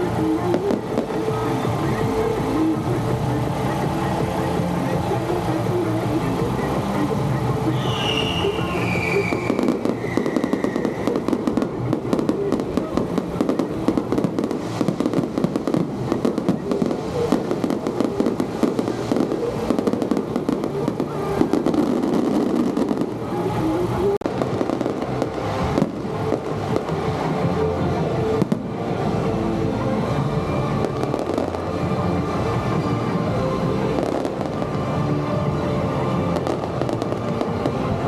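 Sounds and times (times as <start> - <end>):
fireworks crackling bangs: 0.0 - 38.0.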